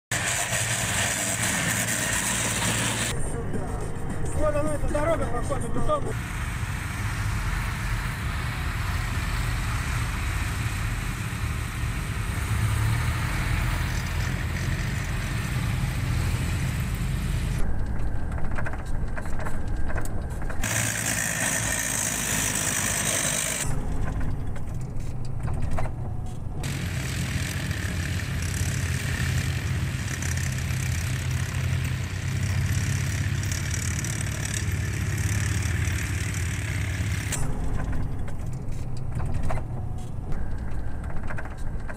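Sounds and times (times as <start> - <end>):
truck engines rumbling: 0.0 - 41.9.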